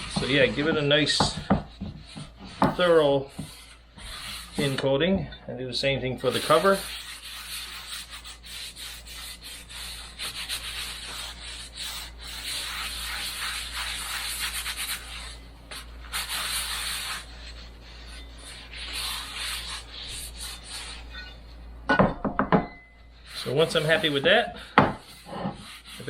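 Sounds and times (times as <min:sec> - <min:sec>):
paper towel rubbing cast iron: 0:00.0 - 0:05.0, 0:06.0 - 0:21.6, 0:23.2 - 0:26.0.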